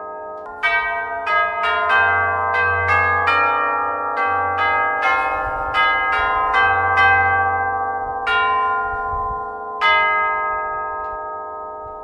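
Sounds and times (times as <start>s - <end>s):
tubular bells ringing a tune: 0.0s - 12.0s.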